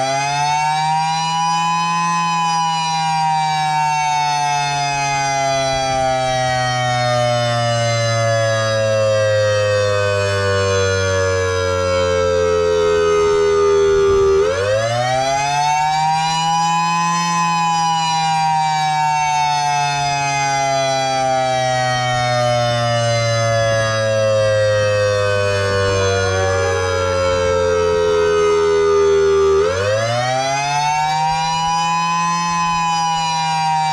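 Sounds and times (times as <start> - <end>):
warning siren wailing: 0.0 - 33.9.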